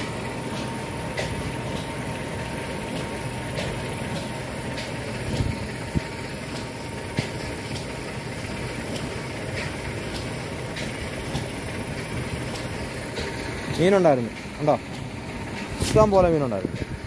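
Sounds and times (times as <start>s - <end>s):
water pump motor running: 0.0s - 17.0s.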